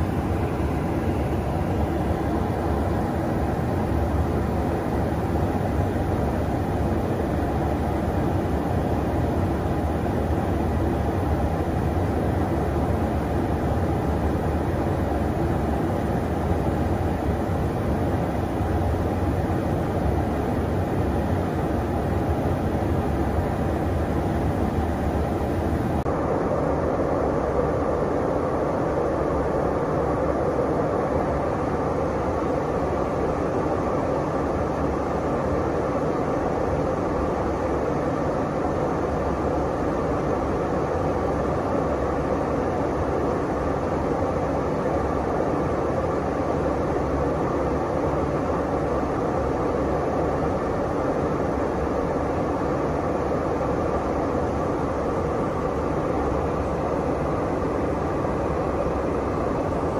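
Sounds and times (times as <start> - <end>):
aircraft engine and airflow drone: 0.0 - 59.9.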